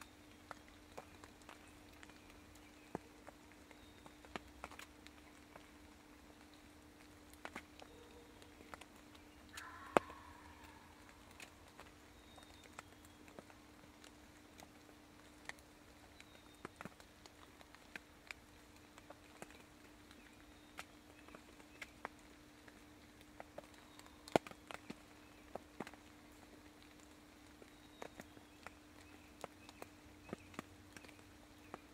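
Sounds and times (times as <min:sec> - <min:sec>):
faint irregular clicks: 0:00.0 - 0:31.9
faint steady hum: 0:00.0 - 0:31.9.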